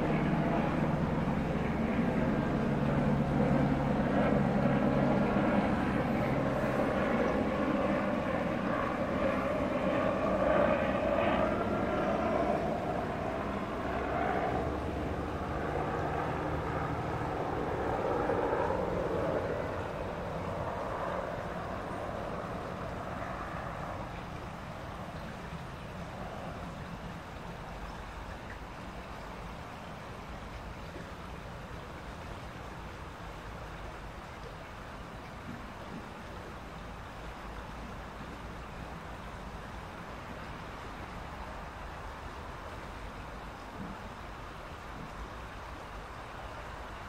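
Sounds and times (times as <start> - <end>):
distant engine drone: 0.0 - 47.0.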